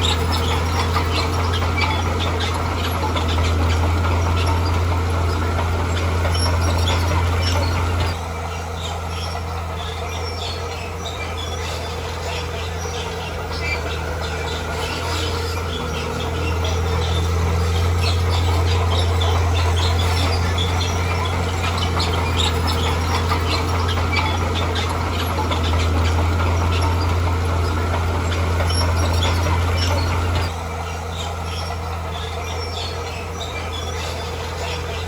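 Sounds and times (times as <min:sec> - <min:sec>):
bulldozer diesel engine droning: 0:00.0 - 0:35.0
crawler tracks squealing and clattering: 0:00.0 - 0:35.0.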